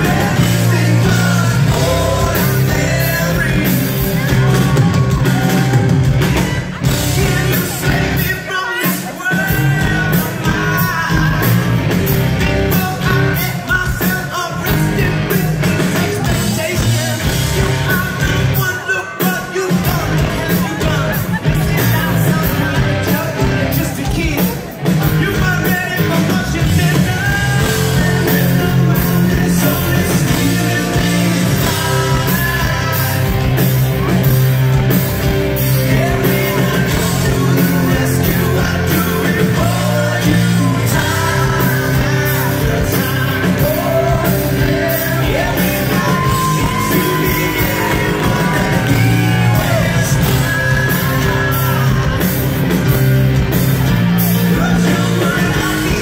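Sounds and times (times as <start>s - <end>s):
live rock band: 0.0s - 56.0s
male lead vocal: 0.0s - 56.0s.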